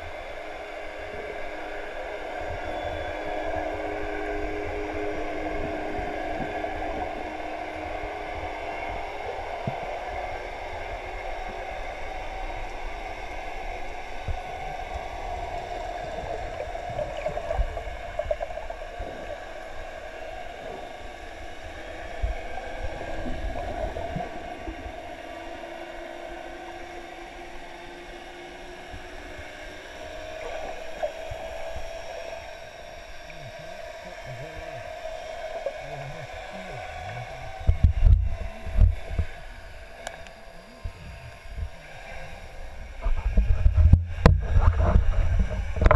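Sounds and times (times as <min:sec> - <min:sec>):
faint wavering hum: 0:00.0 - 0:45.9
muffled underwater hiss: 0:00.0 - 0:45.9.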